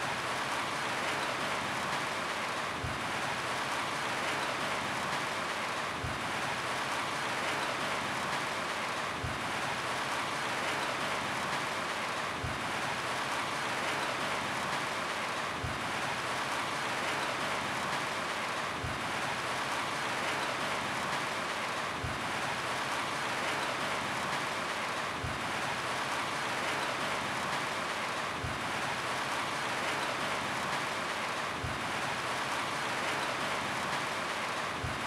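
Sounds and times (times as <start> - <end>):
rain on a roof: 0.0 - 35.0.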